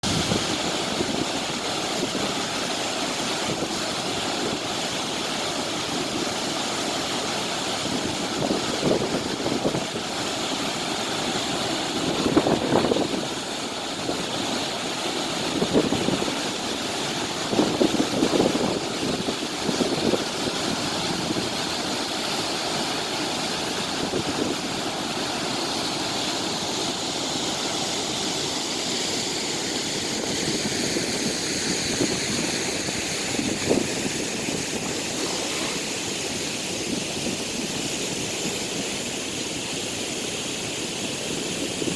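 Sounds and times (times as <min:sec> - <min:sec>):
propellers churning water: 0:00.0 - 0:41.9.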